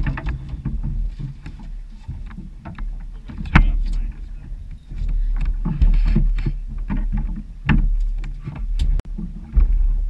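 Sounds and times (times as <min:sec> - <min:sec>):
water slapping boat hull: 0:00.0 - 0:10.0
wind buffeting microphone: 0:00.0 - 0:10.0.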